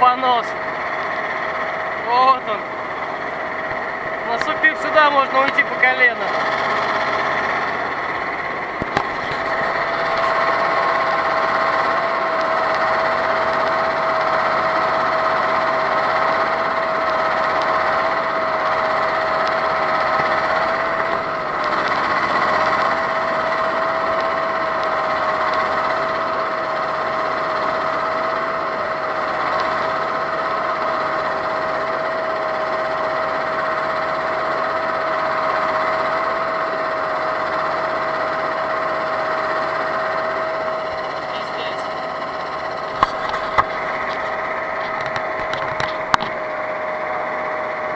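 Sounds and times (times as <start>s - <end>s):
rough mechanical noise: 0.0s - 47.9s
vehicle engine whining steadily: 0.0s - 47.9s.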